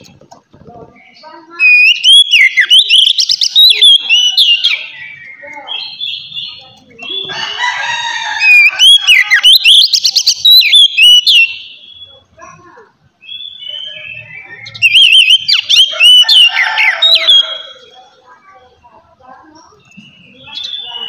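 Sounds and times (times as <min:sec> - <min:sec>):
songbird singing with trills: 0:00.9 - 0:12.5, 0:13.2 - 0:21.0.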